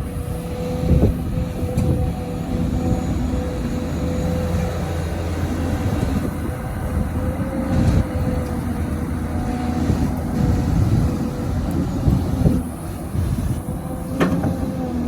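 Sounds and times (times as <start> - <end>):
excavator diesel engine running: 0.0 - 15.0
steady hydraulic whine: 0.0 - 15.0.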